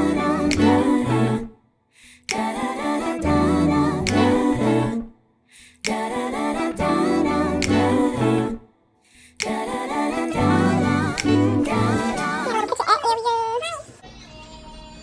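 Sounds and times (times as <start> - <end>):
song with singing and beat: 0.0 - 12.8.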